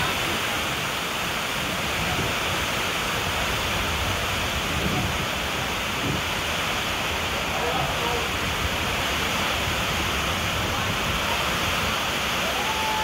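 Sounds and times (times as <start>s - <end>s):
heavy rain on water and wood: 0.0s - 13.0s.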